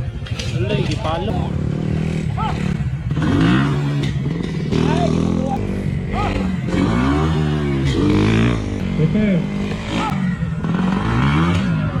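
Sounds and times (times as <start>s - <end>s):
dirt bike engine revving: 0.0s - 12.0s
voices: 0.0s - 12.0s.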